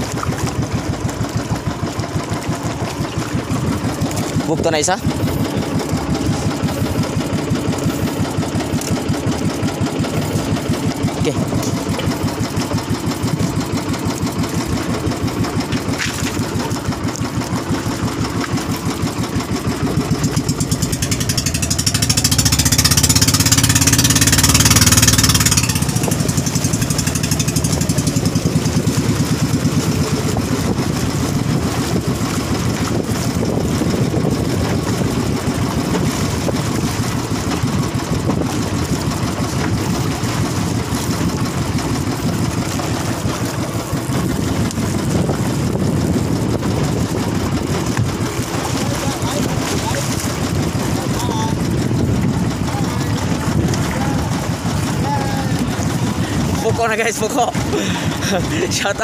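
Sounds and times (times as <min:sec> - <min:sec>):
boat engine running steadily: 0:00.0 - 0:59.0.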